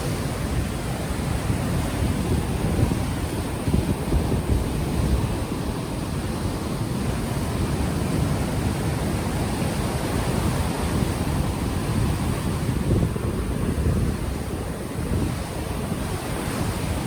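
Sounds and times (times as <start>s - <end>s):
ocean waves washing on shore: 0.0s - 17.0s
wind buffeting microphone: 0.0s - 17.0s.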